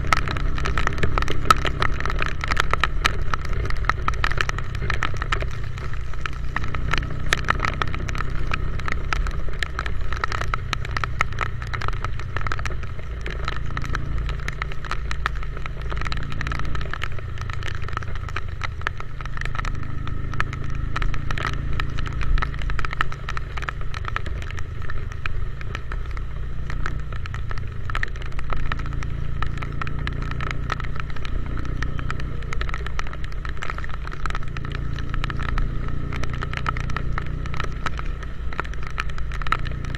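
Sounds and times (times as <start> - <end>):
motorcycle engine rumble: 0.0 - 39.9
raindrops crackling on microphone: 0.0 - 39.9.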